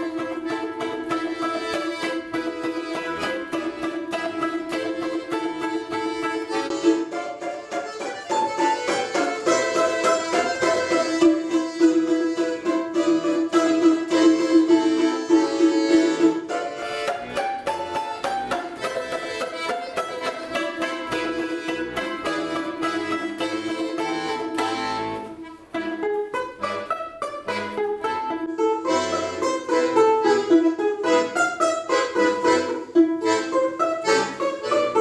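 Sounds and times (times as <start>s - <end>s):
plucked string music: 0.0s - 35.0s.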